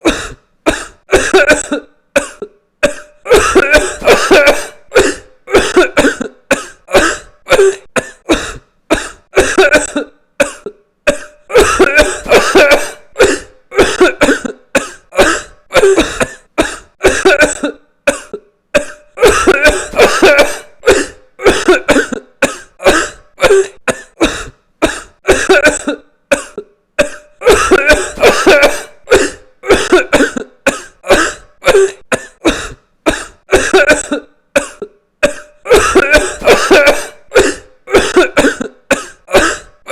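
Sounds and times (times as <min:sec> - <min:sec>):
person coughing: 0:00.0 - 0:39.9.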